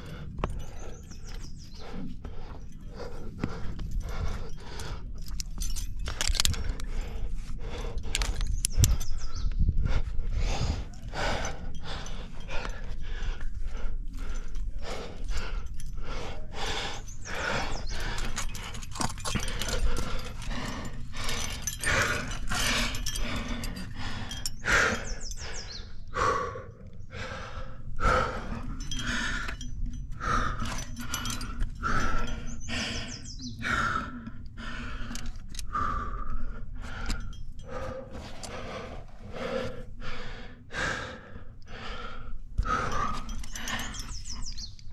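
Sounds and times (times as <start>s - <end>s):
steady low rumble: 0.0s - 44.4s
heavy rapid breathing: 0.0s - 44.9s.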